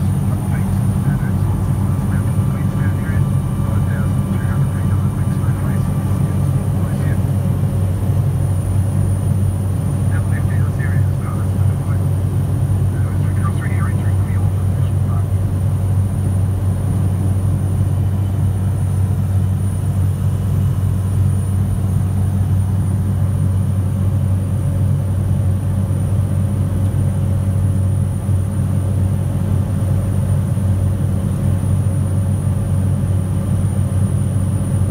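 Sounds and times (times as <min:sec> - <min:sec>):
high propeller whine: 0:00.0 - 0:34.9
turboprop engine drone: 0:00.0 - 0:34.9.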